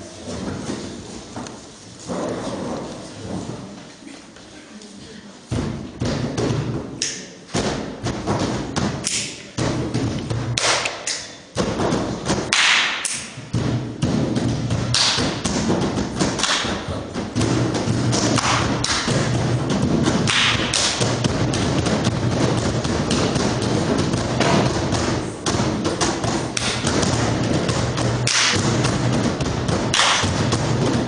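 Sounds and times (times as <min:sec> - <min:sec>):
percussion knocking and tapping: 0:05.5 - 0:31.0.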